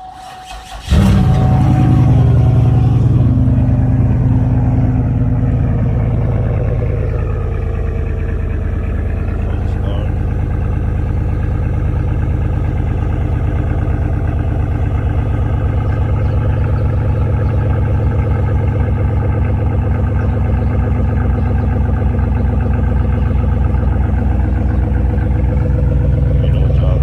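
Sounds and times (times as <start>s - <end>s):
car engine loud low drone: 0.0s - 27.0s.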